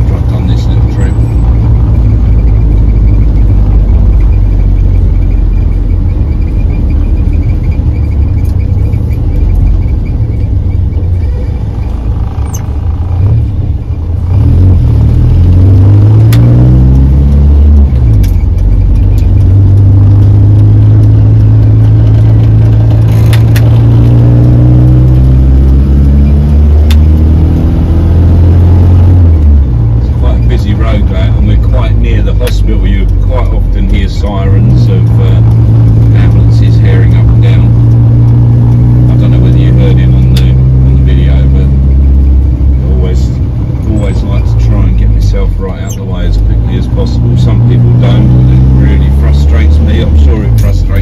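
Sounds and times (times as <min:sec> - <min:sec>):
car engine driving: 0:00.0 - 0:51.0
road noise: 0:00.0 - 0:51.0.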